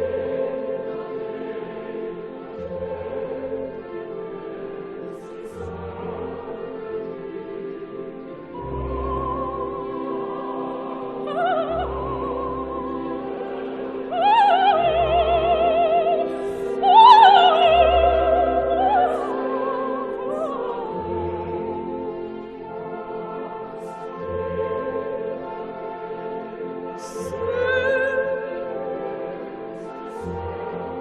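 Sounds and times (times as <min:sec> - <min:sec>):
opera singer with wide vibrato: 0:00.0 - 0:31.0
orchestral accompaniment: 0:00.0 - 0:31.0.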